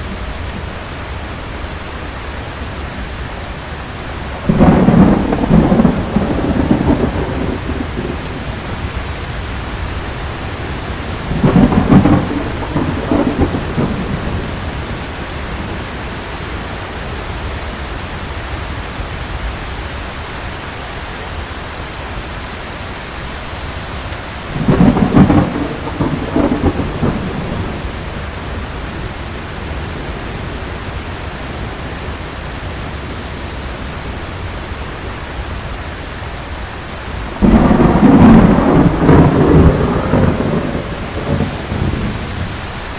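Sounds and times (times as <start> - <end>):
thunder rumbling: 0.0 - 18.7, 23.7 - 42.9
heavy rain: 0.0 - 42.9.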